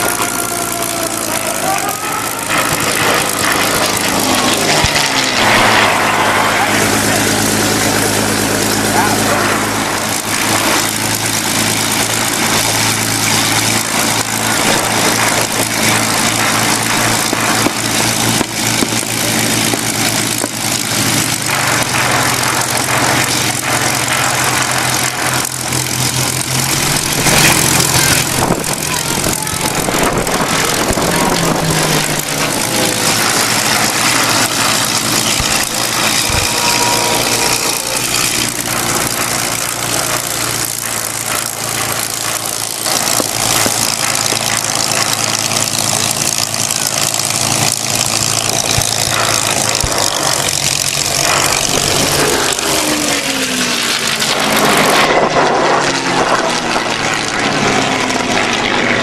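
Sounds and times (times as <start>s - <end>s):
propeller plane engine running: 0.0s - 59.0s.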